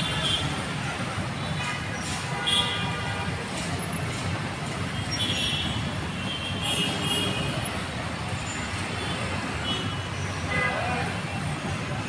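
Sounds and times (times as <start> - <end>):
traffic engines: 0.0 - 12.0.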